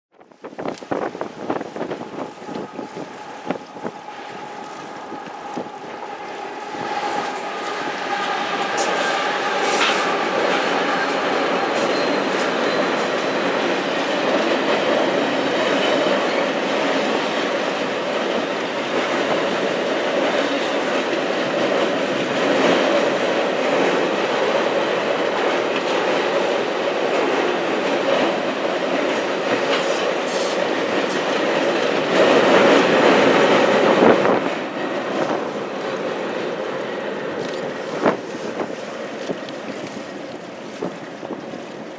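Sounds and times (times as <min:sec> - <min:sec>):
train wheels rolling on a bridge: 0:00.2 - 0:41.9.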